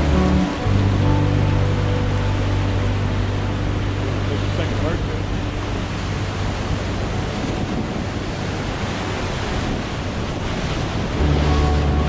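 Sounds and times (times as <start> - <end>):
river rapid rushing water: 0.0 - 12.0
wind buffeting microphone: 0.0 - 12.0.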